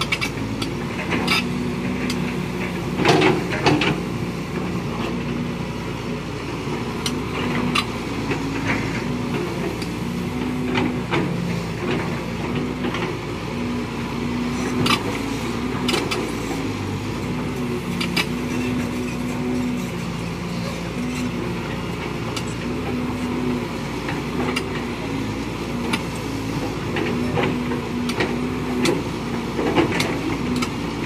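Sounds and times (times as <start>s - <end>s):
excavator diesel engines: 0.0s - 31.0s.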